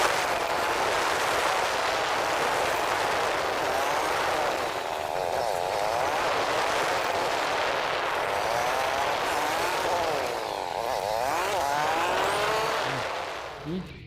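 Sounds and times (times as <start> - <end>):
vehicle engine revving: 0.0 - 14.0
wind and road noise: 0.0 - 14.0.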